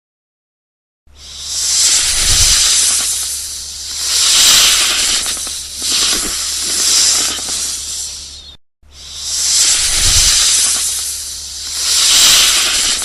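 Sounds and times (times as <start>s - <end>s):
animal hissing: 1.1s - 13.0s.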